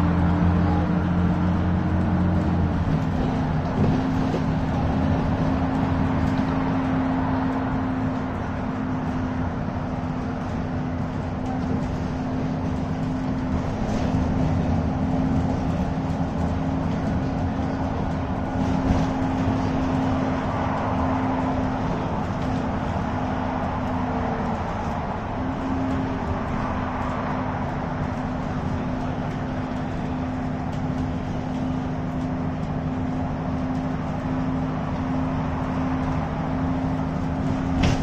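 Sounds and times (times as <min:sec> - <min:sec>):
bus engine and tyres droning: 0:00.0 - 0:38.0.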